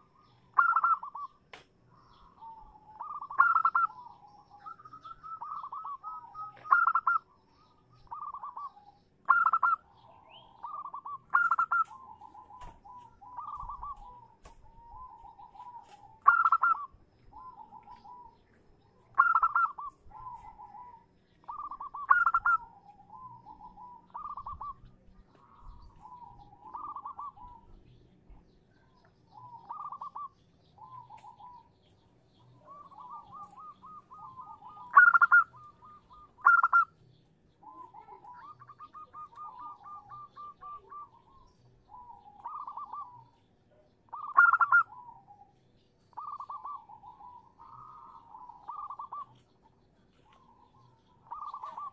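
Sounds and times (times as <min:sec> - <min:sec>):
dove cooing: 0:00.0 - 0:01.4, 0:02.0 - 0:37.0, 0:37.6 - 0:45.5, 0:46.1 - 0:51.9.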